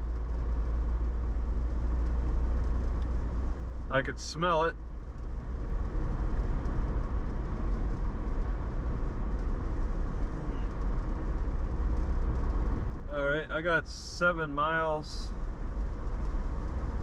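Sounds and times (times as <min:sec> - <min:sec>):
car tyres and engine rumble: 0:00.0 - 0:17.0.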